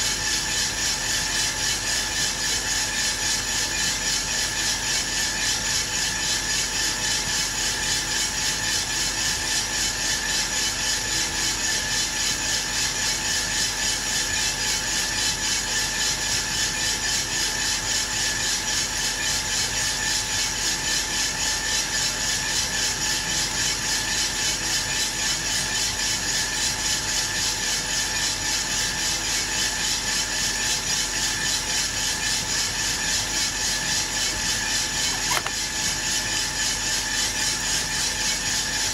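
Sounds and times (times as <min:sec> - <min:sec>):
roaster motor and fan hum: 0:00.0 - 0:38.9.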